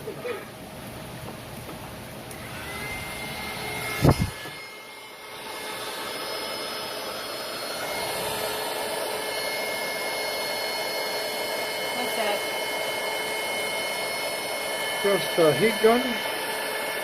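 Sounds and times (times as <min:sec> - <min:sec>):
heat gun whirring: 0:01.5 - 0:17.0.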